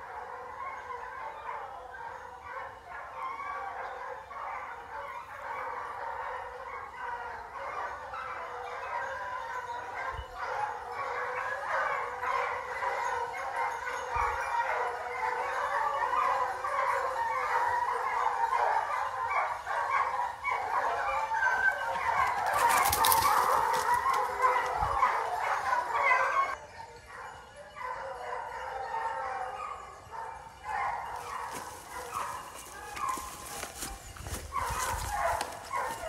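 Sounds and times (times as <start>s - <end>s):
hounds baying: 0.0s - 36.0s.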